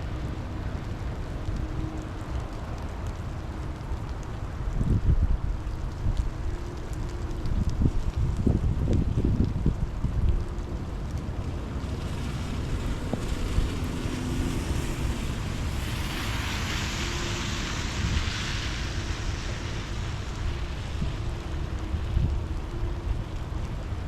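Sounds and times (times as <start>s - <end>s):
rain falling: 0.0s - 24.0s
wind buffeting microphone: 0.0s - 24.0s.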